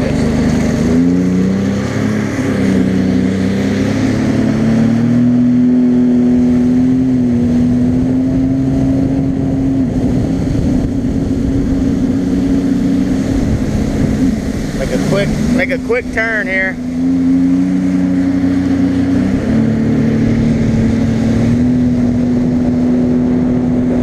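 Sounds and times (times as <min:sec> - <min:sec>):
wind on microphone: 0:00.0 - 0:16.2, 0:16.8 - 0:24.0
jet ski engine running: 0:00.0 - 0:24.0.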